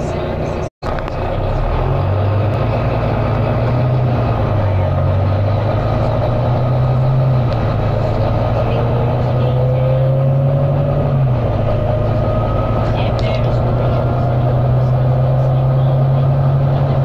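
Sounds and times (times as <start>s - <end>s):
bus engine pulling hard: 0.0s - 17.0s.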